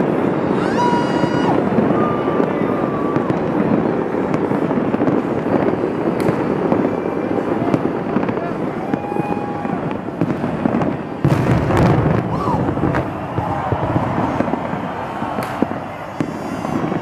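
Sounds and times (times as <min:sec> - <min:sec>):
fireworks popping and crackling: 0:00.0 - 0:17.0
street crowd noise: 0:00.0 - 0:17.0.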